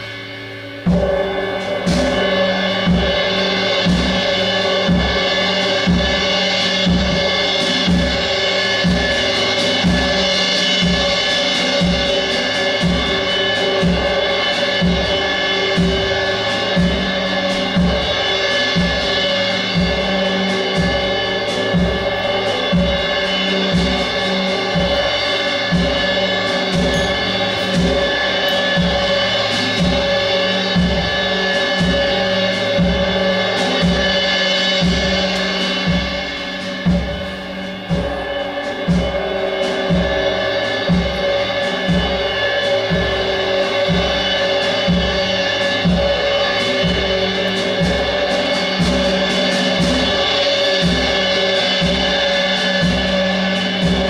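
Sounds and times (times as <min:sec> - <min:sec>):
low drum strokes: 0:00.0 - 0:54.0
ringing drone: 0:00.0 - 0:54.0.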